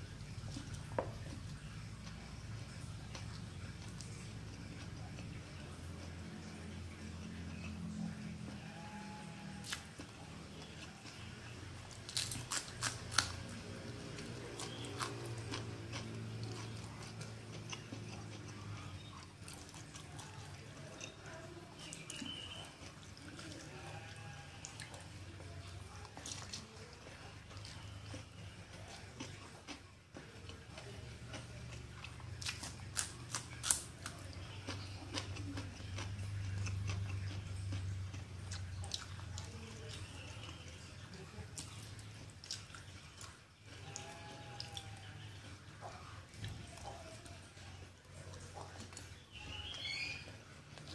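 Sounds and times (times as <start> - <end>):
person chewing: 0.0 - 50.9.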